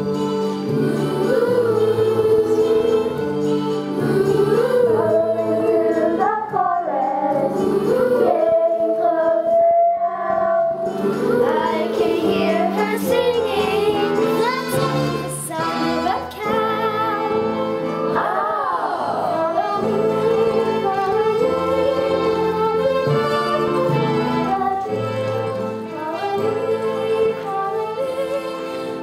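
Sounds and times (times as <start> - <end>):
children singing: 0.0 - 29.0
instrumental accompaniment: 0.0 - 29.0.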